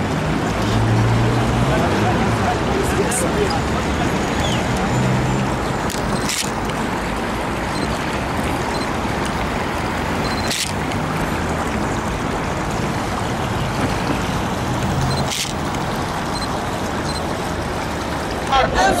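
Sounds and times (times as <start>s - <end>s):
steady outdoor rushing noise: 0.0s - 19.0s.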